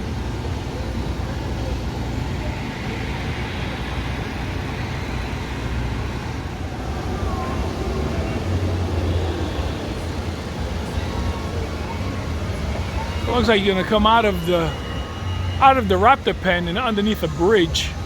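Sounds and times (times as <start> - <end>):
faint distant voices: 0.0 - 18.0
low outdoor rumble: 0.0 - 18.0.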